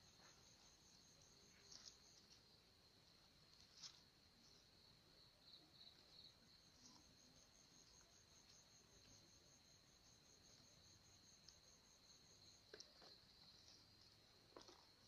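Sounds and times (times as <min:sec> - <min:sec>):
crickets steady trill: 0:00.0 - 0:15.0.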